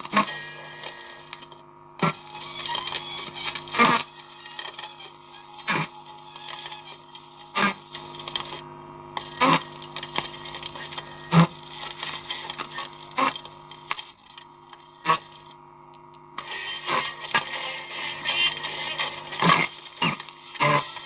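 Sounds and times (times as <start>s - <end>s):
record player hum: 0.0s - 21.0s.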